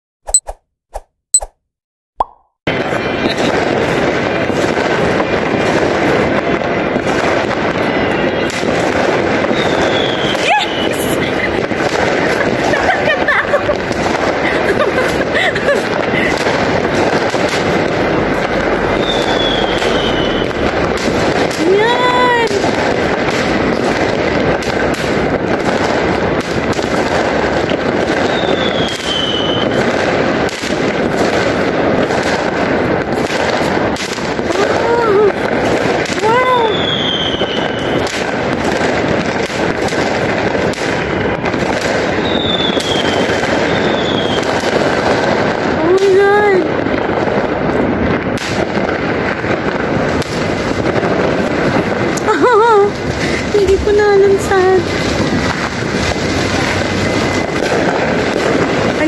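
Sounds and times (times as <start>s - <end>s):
fireworks crackling and popping: 2.6s - 59.0s.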